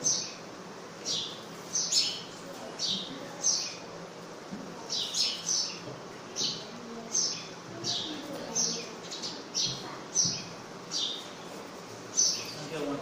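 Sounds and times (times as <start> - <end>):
bird chirping: 0.0 - 3.9, 4.9 - 11.5, 12.1 - 13.0.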